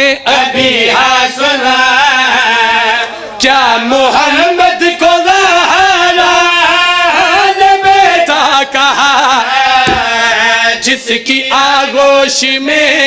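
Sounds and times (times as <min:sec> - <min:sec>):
man chanting: 0:01.2 - 0:13.0.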